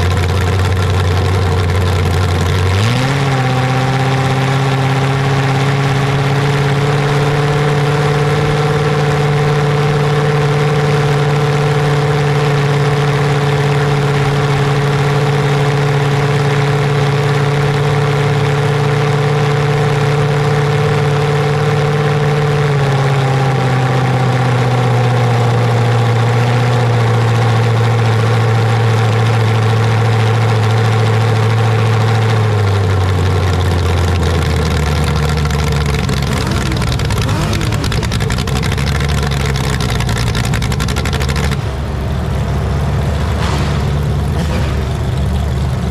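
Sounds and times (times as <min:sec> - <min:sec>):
large engine running: 0:00.0 - 0:45.9.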